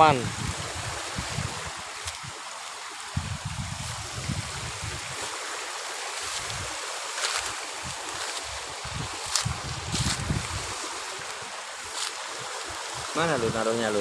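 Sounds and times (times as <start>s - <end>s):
wind buffeting microphone: 0.0s - 5.6s, 6.2s - 11.3s, 12.2s - 14.0s
stream running over rocks: 0.0s - 14.0s
dry grass rustling: 0.5s - 13.5s.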